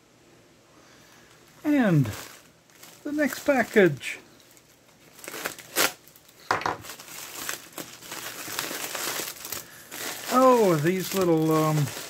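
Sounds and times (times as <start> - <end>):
plastic bag crinkling: 1.2 - 12.0.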